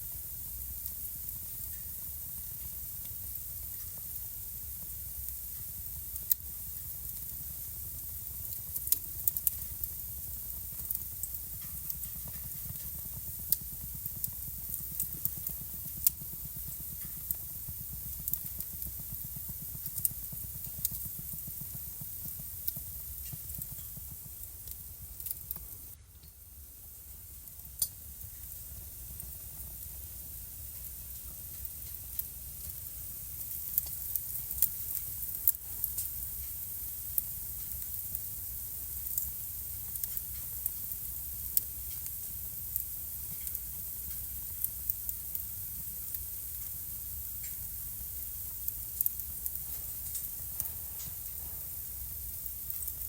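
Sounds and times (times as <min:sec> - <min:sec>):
fire low rumble and hiss: 0:00.0 - 0:53.0
fireplace wood crackling: 0:00.0 - 0:53.0.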